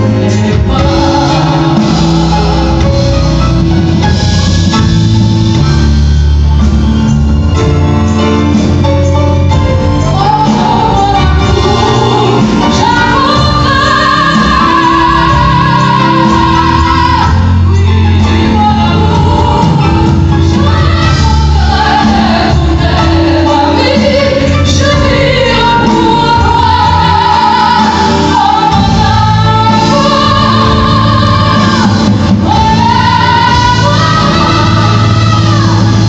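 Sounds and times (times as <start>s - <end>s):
woman singing: 0.0s - 2.9s, 10.0s - 36.0s
live band playing: 0.0s - 36.0s.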